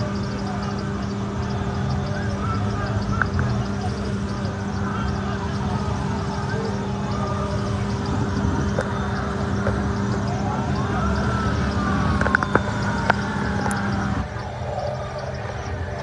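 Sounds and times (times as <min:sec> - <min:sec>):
faint siren wail: 0:00.0 - 0:16.0
road and engine noise: 0:00.0 - 0:16.0
sharp clicks: 0:00.0 - 0:16.0
steady hum: 0:00.0 - 0:16.0.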